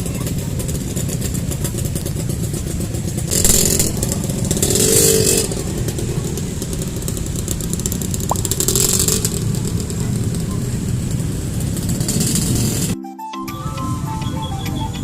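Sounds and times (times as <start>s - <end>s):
motorcycle engines in traffic: 0.0s - 13.0s, 13.6s - 15.0s.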